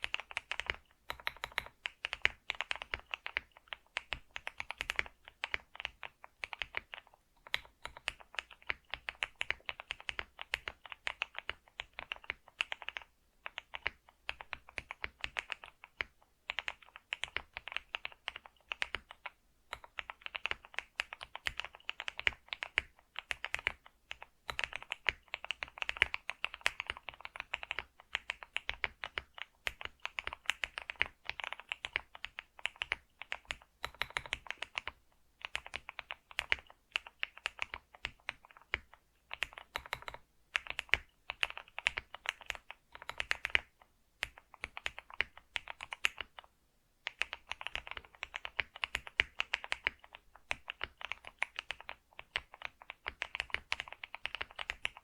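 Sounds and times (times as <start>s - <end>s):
keyboard typing: 0.0s - 55.0s.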